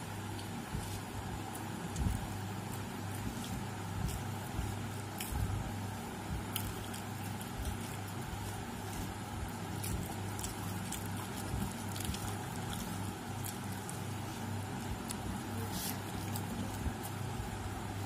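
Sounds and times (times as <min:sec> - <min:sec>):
fingers squishing rice: 0:00.0 - 0:18.0
steady low hum: 0:00.0 - 0:18.0.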